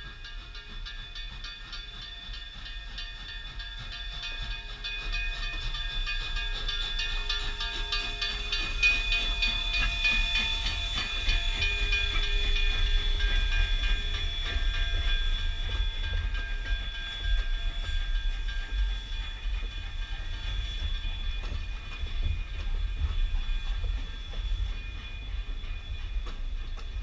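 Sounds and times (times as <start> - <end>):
coaches rolling on rails: 0.0 - 27.0
rail clicks: 0.0 - 27.0.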